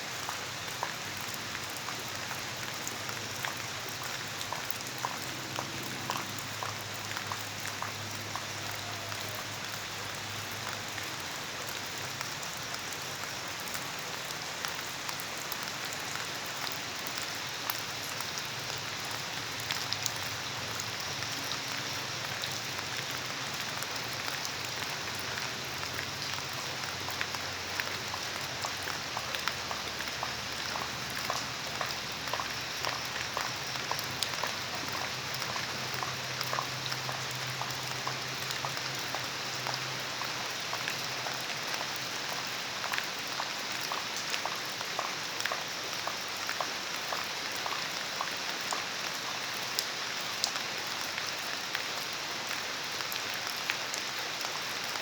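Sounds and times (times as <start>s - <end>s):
rain falling: 0.0s - 55.0s
water drips: 0.1s - 50.6s.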